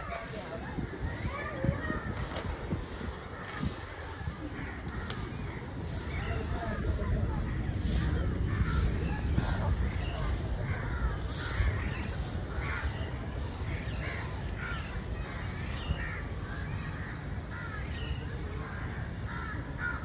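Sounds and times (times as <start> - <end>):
steady low rumble: 0.0 - 17.8
birds calling: 0.0 - 20.0.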